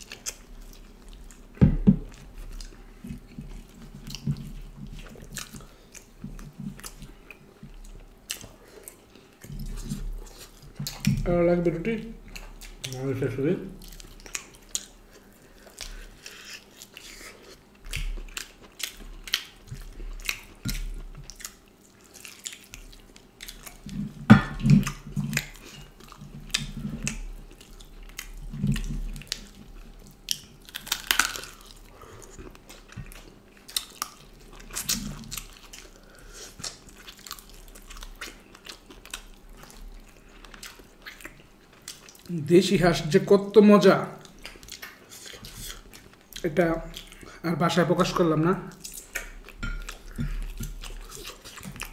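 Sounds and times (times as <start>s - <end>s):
wet chewing and lip smacks: 0.0s - 11.2s, 13.8s - 42.3s, 44.2s - 47.4s, 48.7s - 51.9s.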